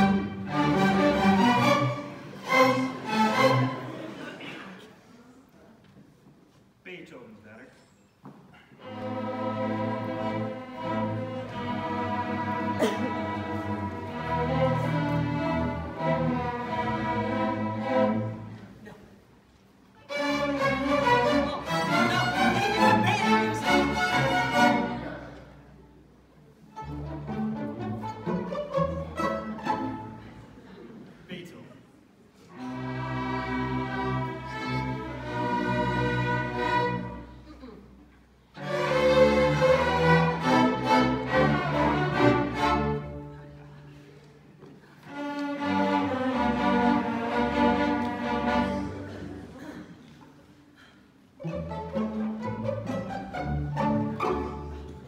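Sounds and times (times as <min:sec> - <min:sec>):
orchestra strings playing: 0:00.0 - 0:04.4, 0:08.8 - 0:55.0.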